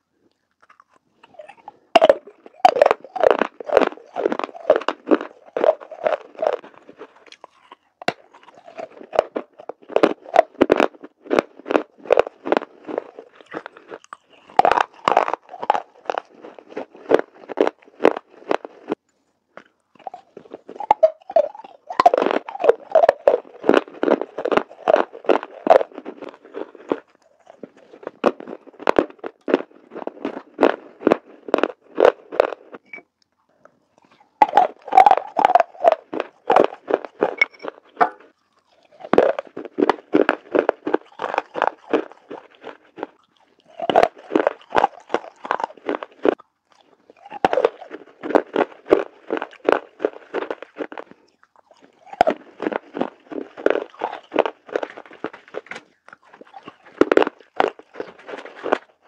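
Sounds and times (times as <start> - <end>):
clay pieces crunching when chewed: 0.0 - 59.0.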